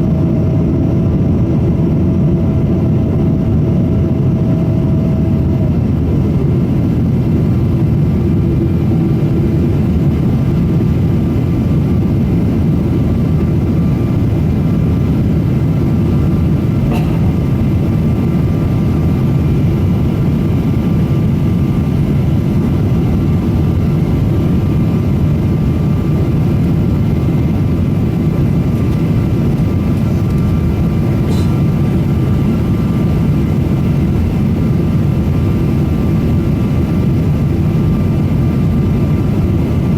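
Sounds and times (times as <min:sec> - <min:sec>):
aircraft engines roaring: 0:00.0 - 0:39.9.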